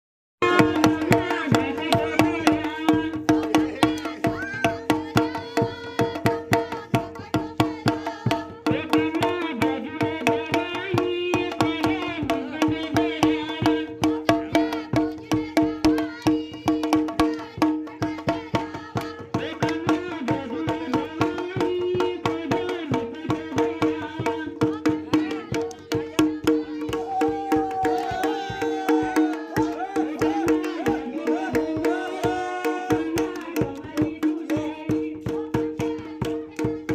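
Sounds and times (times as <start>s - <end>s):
fast drum beat: 0.4s - 36.9s
voices singing folk song: 0.4s - 36.9s.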